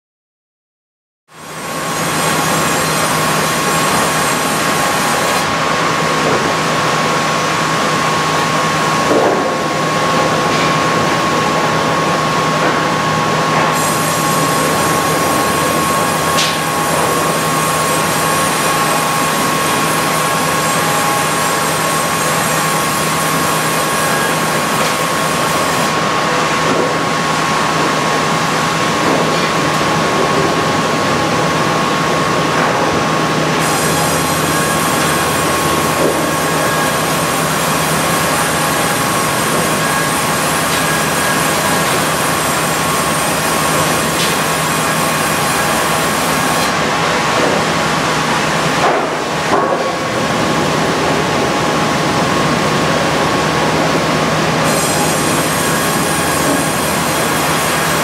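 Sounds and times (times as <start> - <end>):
sawmill bandsaw whining: 1.4 - 58.0.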